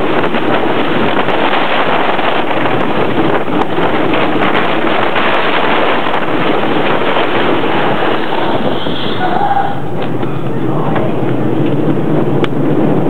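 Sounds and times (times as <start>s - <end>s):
roller coaster rumbling on track: 0.0s - 13.0s
wind rushing over microphone: 0.0s - 13.0s.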